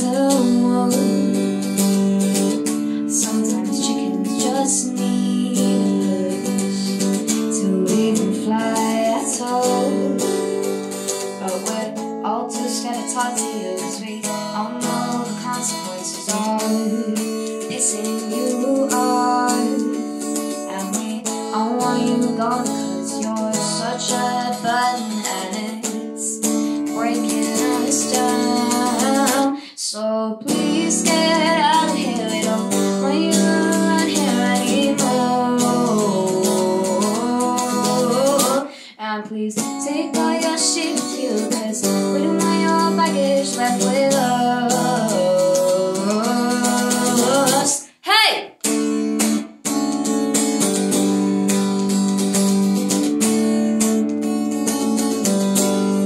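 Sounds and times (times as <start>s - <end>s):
electric guitar strumming: 0.0s - 29.6s, 30.5s - 38.6s, 39.6s - 47.9s, 48.6s - 56.0s
woman singing: 0.0s - 48.5s.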